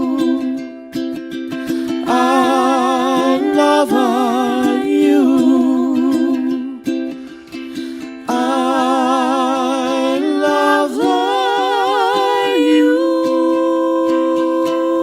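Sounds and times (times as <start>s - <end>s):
person singing with vibrato: 0.0s - 15.0s
soft ukulele plucking: 0.0s - 15.0s.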